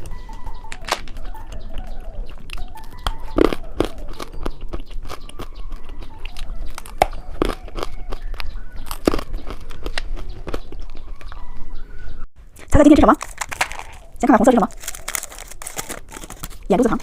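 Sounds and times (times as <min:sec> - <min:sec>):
person chewing crunchy candy: 0:00.0 - 0:11.5, 0:12.4 - 0:17.0.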